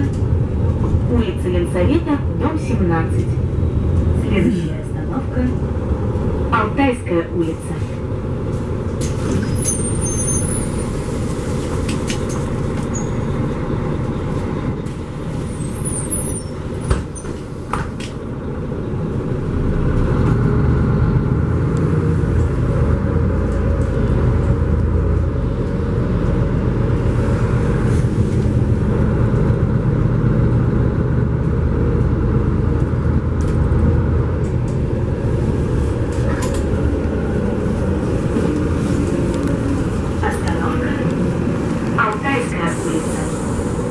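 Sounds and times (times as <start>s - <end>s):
bus engine rumble: 0.0s - 43.9s
road noise: 0.0s - 43.9s.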